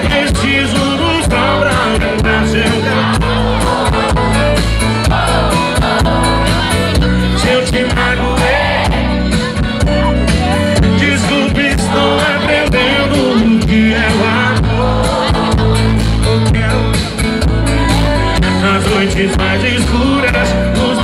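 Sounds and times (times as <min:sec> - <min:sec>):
bass: 0:00.0 - 0:21.0
live band playing amplified music: 0:00.0 - 0:21.0
steady drum beat: 0:00.0 - 0:21.0.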